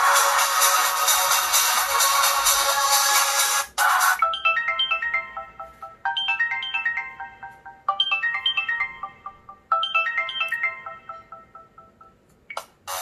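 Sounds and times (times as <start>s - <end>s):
phone ringtone melody: 0.0s - 12.3s.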